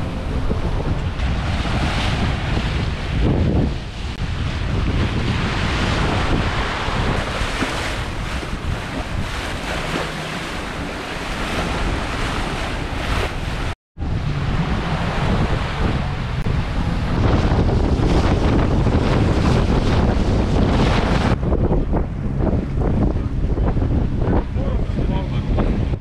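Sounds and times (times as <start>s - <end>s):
bow wave splashing along hull: 0.0s - 26.0s
wind buffeting microphone: 0.0s - 26.0s.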